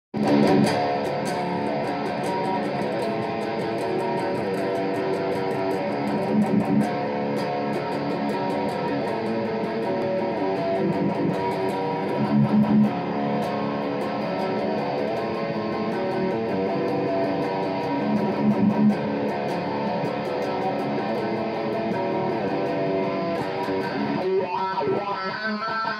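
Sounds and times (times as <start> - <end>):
electric guitar metal solo: 0.2 - 25.9.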